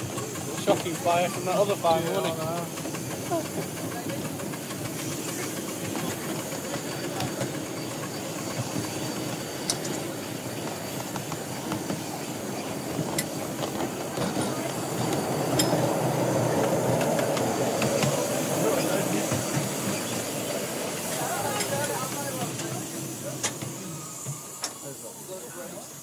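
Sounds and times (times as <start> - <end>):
wheels clicking over rail joints: 0.0 - 25.0
steam locomotive running: 0.0 - 26.0.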